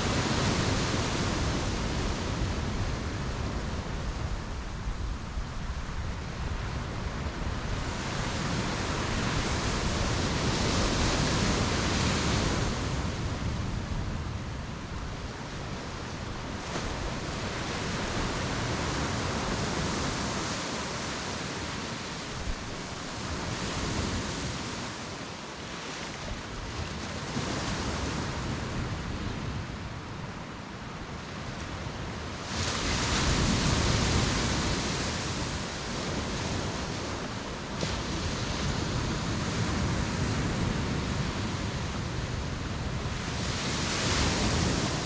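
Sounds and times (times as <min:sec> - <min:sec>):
ocean waves breaking on beach: 0:00.0 - 0:45.0.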